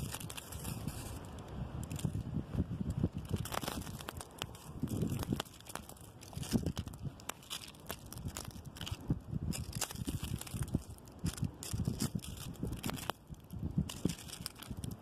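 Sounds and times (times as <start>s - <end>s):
wind buffeting microphone: 0.0s - 15.0s
wind gusting through trees: 0.0s - 15.0s.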